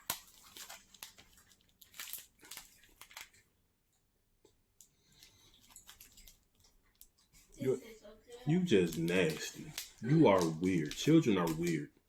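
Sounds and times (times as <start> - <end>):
wrapper crinkling: 0.0 - 3.5, 4.8 - 12.0.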